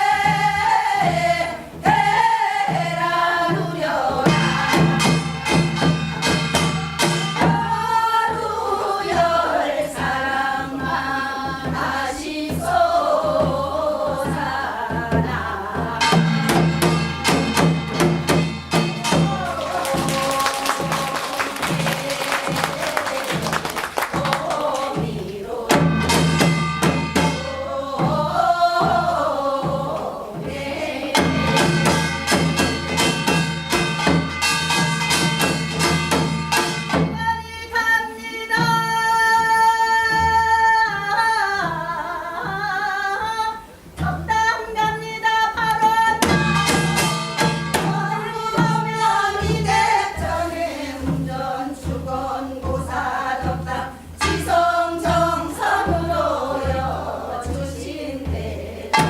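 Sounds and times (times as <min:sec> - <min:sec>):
drum strokes: 0:00.0 - 0:59.0
folk singing with wavering held notes: 0:00.0 - 0:59.0
instrumental accompaniment: 0:00.0 - 0:59.0.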